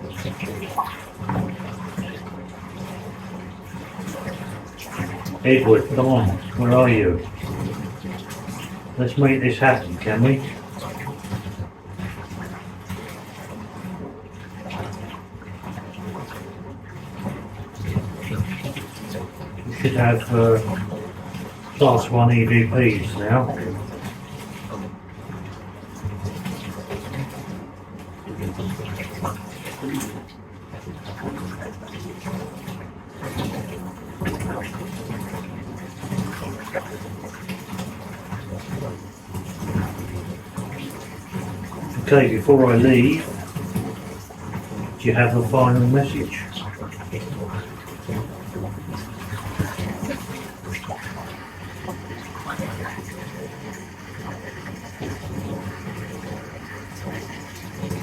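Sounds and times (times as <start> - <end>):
tap water running into bathtub: 0.0 - 58.0.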